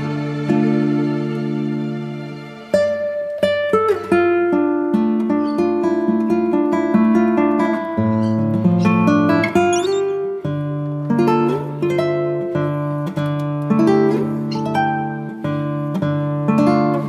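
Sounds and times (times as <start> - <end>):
acoustic guitar playing: 2.7 - 17.0.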